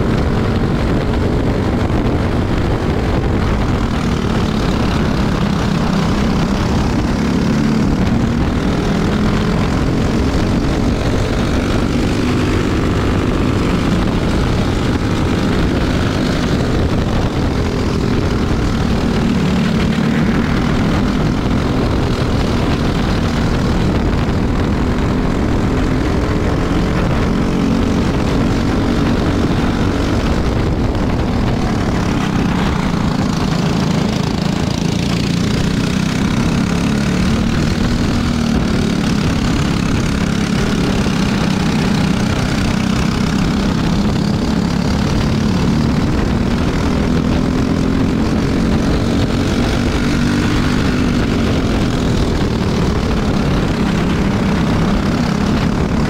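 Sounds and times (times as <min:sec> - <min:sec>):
kart engine racing: 0:00.0 - 0:56.0
rushing wind noise: 0:00.0 - 0:56.0.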